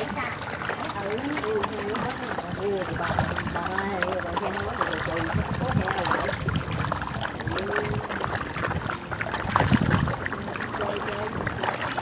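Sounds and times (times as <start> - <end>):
fish splashing at water surface: 0.0 - 12.0.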